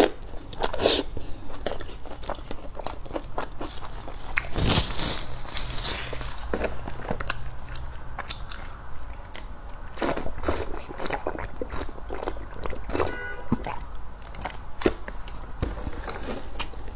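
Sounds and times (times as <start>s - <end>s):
chewing: 0.0s - 16.9s.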